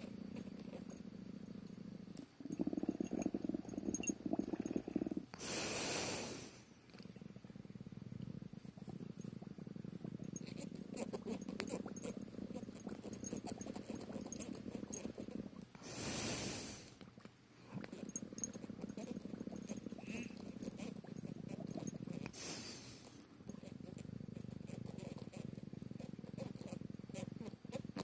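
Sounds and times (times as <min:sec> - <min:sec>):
low steady purring: 0:00.0 - 0:16.9, 0:17.6 - 0:28.0.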